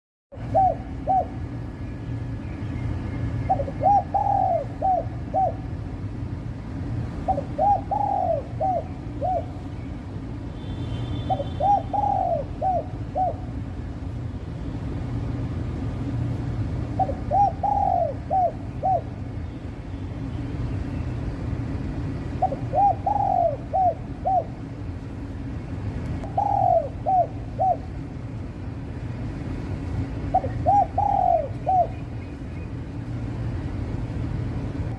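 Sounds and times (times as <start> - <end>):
steady low hum: 0.3 - 34.9.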